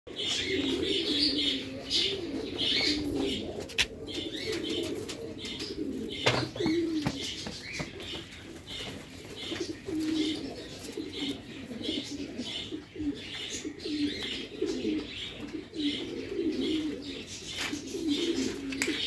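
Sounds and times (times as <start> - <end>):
pigeons cooing: 0.1 - 19.0
small birds chirping: 0.1 - 19.0.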